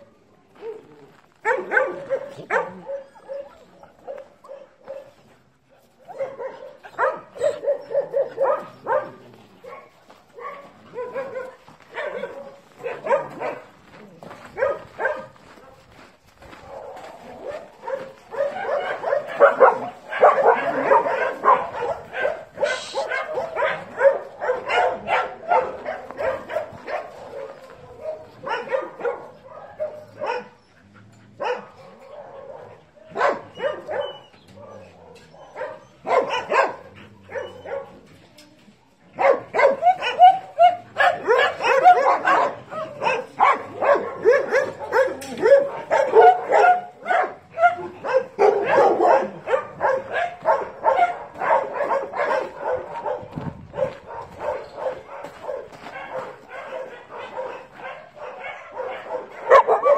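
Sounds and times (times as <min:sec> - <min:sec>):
dogs barking and yipping: 0:00.0 - 0:59.9.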